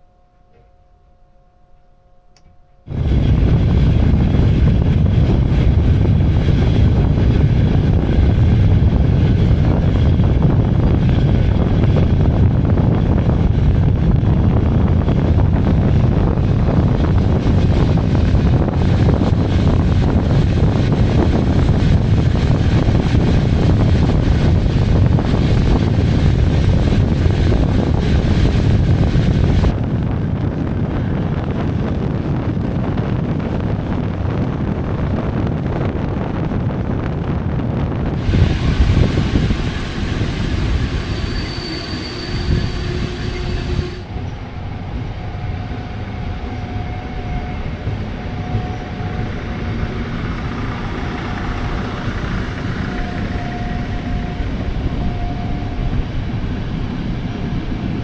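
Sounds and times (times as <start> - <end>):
train wheels rumbling: 2.6 - 58.0
rushing air: 2.9 - 58.0.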